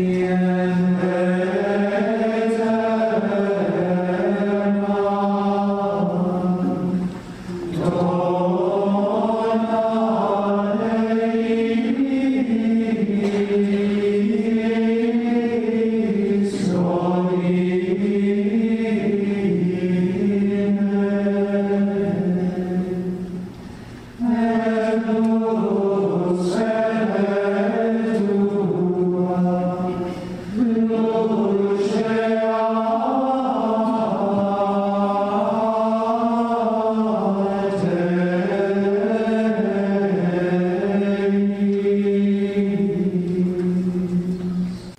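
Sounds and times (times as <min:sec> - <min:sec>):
choir chanting in unison: 0:00.0 - 0:23.5, 0:24.2 - 0:44.9.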